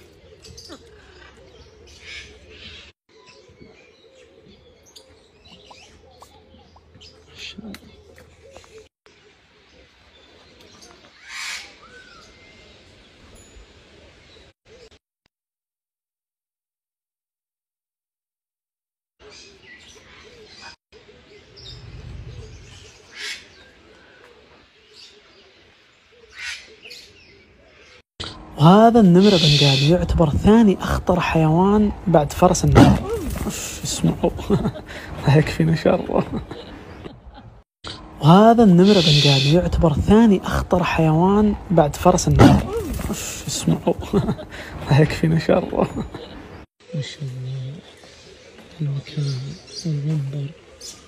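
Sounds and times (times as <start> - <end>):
birds chirping: 0.0 - 15.0, 19.2 - 51.0.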